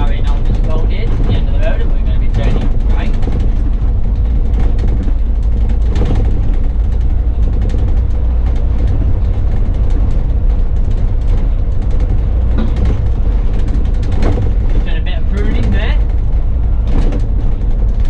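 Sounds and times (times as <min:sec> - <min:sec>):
bus engine and road rumble: 0:00.0 - 0:18.0
light rattles: 0:00.0 - 0:18.0.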